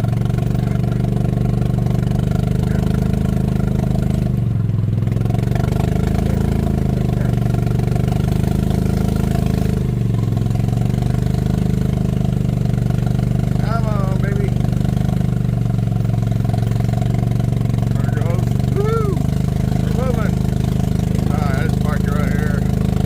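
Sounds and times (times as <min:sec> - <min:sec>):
golf cart engine under load: 0:00.0 - 0:23.0.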